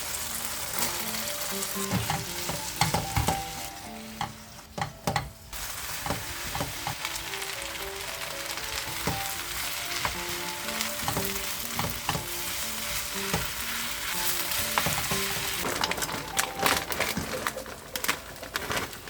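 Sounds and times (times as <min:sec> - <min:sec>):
food sizzling in a frying pan: 0:00.0 - 0:18.4
soft background music: 0:00.0 - 0:19.0.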